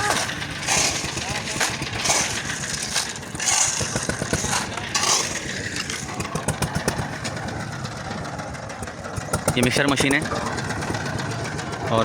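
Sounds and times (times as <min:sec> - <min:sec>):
concrete mixer engine chugging: 0:00.0 - 0:12.0.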